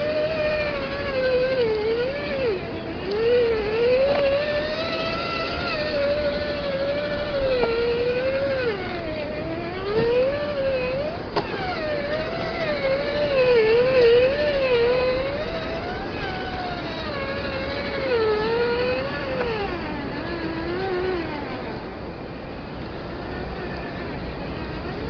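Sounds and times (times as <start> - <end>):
rc car motor whining: 0.0 - 25.0.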